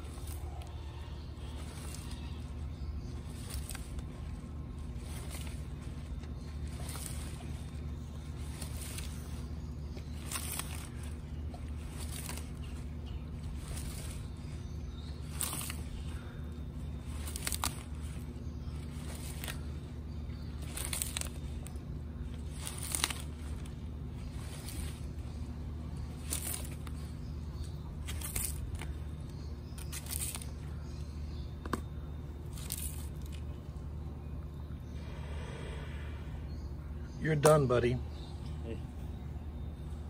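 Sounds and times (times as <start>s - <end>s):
tortoise tearing a leaf: 0.0s - 38.4s
steady low hum: 0.0s - 40.0s.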